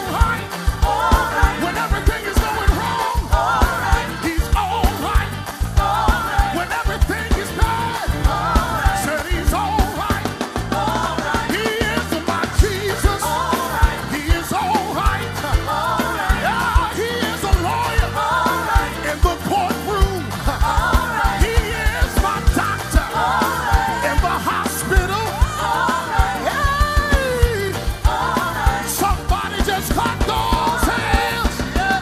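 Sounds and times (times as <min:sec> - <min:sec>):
drums beat: 0:00.0 - 0:32.0
electric guitars: 0:00.0 - 0:32.0
gospel singers: 0:00.0 - 0:32.0.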